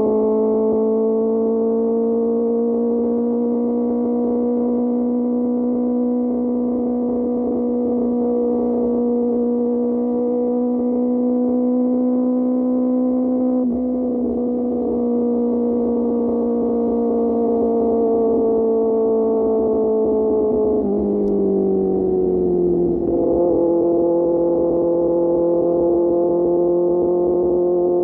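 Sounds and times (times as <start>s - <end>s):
motorcycle engine high-pitched drone: 0.0s - 28.0s.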